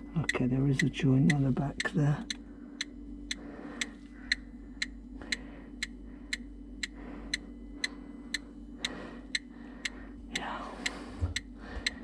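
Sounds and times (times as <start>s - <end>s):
faint steady hum: 0.0s - 12.0s
gas leak detector ticking: 0.0s - 12.0s.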